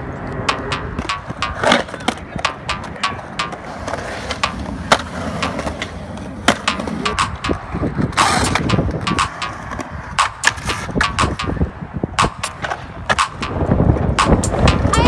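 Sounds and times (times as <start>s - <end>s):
skateboard wheels rolling on concrete: 0.0s - 15.0s
skateboard clacking on ground: 0.1s - 15.0s.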